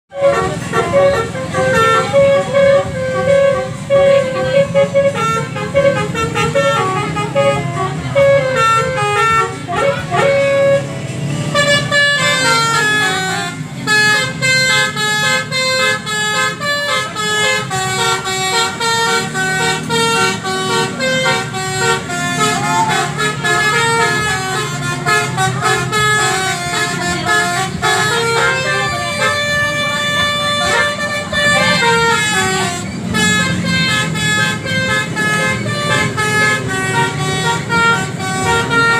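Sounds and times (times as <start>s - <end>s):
musical vehicle horn melody: 0.1s - 38.9s.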